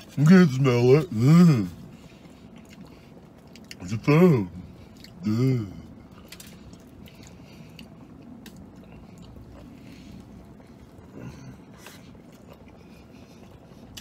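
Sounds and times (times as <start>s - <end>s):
man chewing food: 0.0s - 14.0s.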